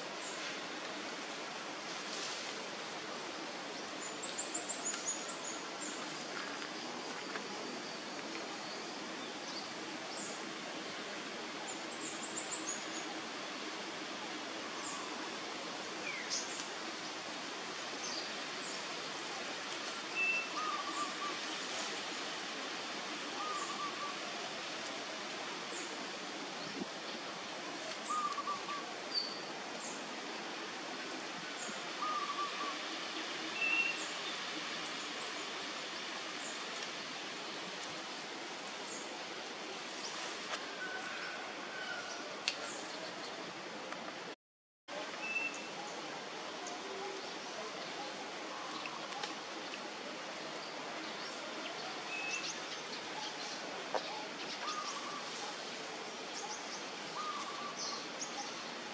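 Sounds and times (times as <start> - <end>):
steady outdoor hiss: 0.0 - 58.9.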